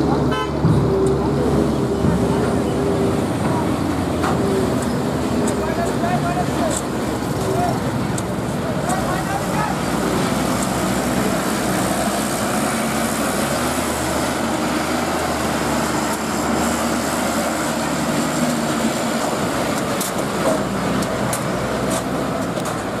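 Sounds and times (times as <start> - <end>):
diesel trucks engine hum: 0.0 - 23.0
traffic noise: 0.0 - 23.0.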